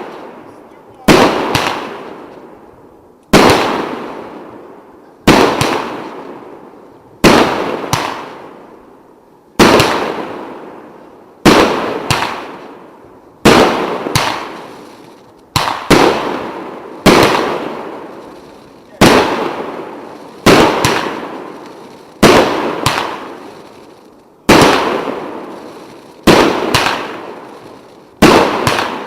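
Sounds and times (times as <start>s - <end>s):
firework cracks: 0.0s - 4.6s, 5.2s - 8.9s, 9.5s - 29.0s
firework bangs: 0.0s - 8.9s, 9.5s - 29.0s.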